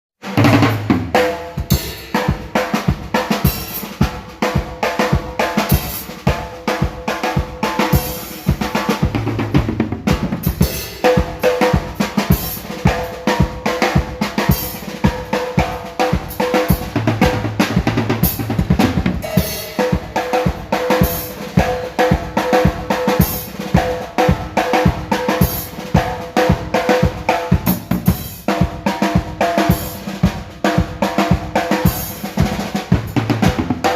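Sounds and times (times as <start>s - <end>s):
acoustic drum kit playing: 0.2s - 33.9s.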